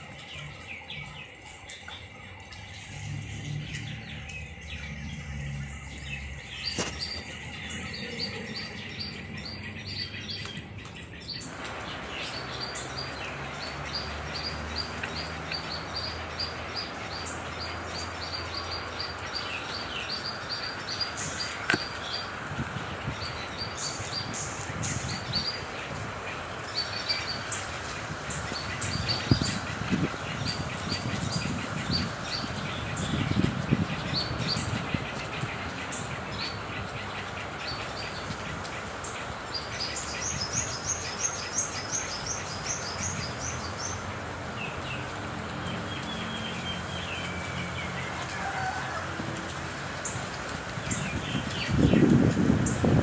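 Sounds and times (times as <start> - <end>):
birds chirping: 0.0 - 53.0
rain hiss: 0.0 - 53.0.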